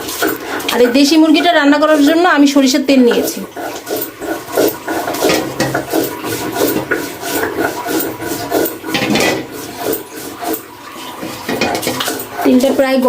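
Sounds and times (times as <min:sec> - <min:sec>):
rasping rubbing strokes: 0:00.0 - 0:13.0.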